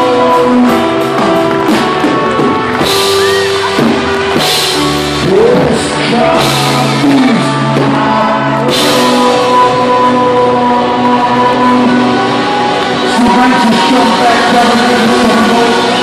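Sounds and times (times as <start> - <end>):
held keyboard chords: 0.0 - 16.0
live rock band playing: 0.0 - 16.0.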